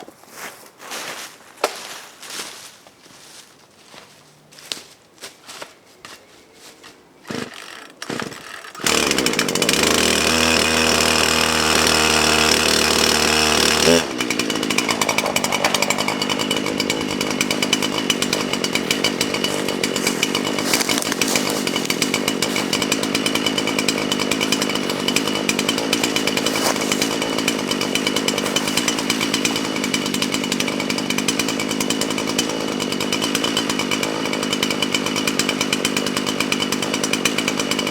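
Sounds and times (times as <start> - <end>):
chainsaw running: 7.2 - 37.9.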